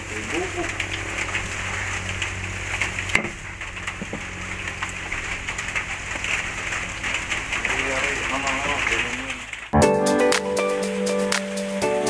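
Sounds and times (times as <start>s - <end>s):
small clicks and crackles: 0.0s - 9.8s
sharp crack: 0.0s - 10.6s.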